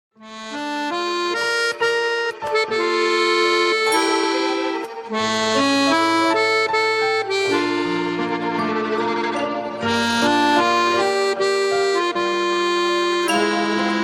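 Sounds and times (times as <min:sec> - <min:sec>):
accordion melody: 0:00.2 - 0:14.0.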